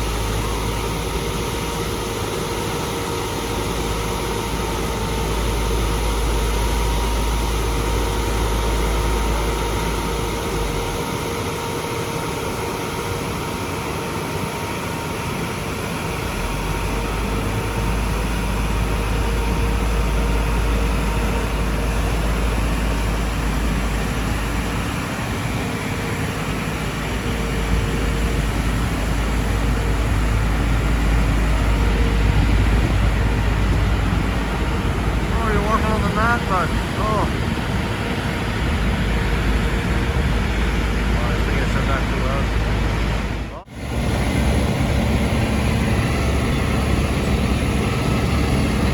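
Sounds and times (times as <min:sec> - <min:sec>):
heavy machinery engines rumbling: 0:00.0 - 0:48.9.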